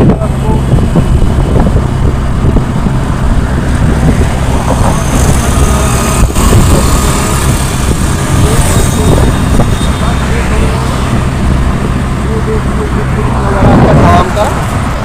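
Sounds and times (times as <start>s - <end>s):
motorcycle engine hum: 0.0s - 15.0s
wind rushing over microphone: 0.0s - 15.0s.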